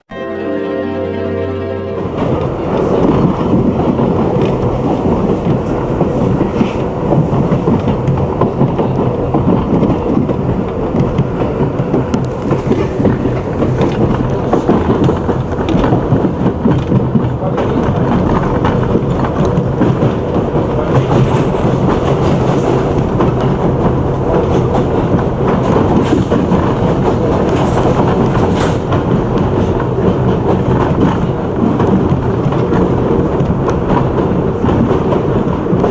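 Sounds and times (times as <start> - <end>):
subway train running: 0.0 - 35.9
wheels clattering over rail joints: 2.1 - 35.9.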